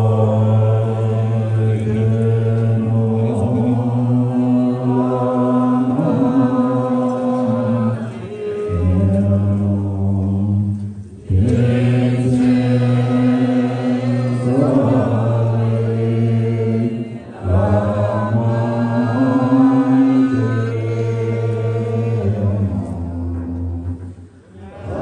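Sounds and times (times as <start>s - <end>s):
men chanting in low drone: 0.0s - 25.0s.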